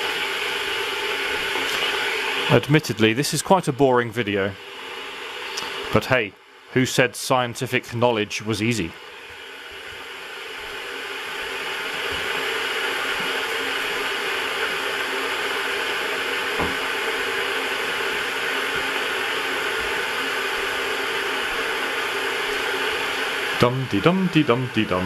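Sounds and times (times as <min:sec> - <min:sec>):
electric kettle heating water: 0:00.0 - 0:06.7, 0:08.6 - 0:25.0.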